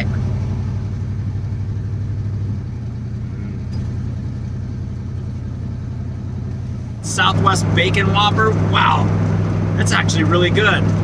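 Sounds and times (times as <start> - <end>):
pickup engine running: 0.0 - 11.0.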